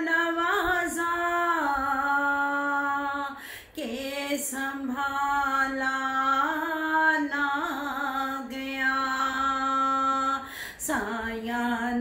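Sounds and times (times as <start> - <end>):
woman singing without instruments: 0.0 - 12.0.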